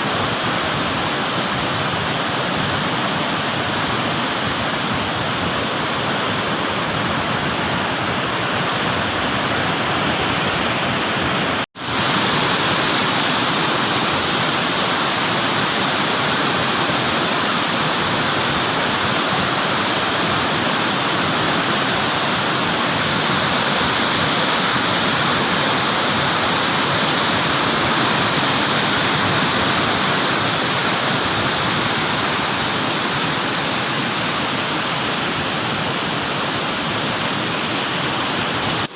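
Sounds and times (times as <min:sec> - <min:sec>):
water rushing through spillway: 0:00.0 - 0:38.9.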